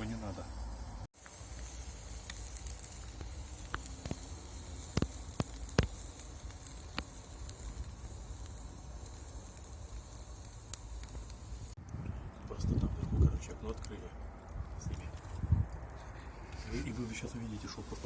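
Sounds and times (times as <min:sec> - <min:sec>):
meat sizzling over charcoal: 0:00.0 - 0:11.8, 0:12.4 - 0:18.0
fire crackles and pops: 0:00.0 - 0:18.0.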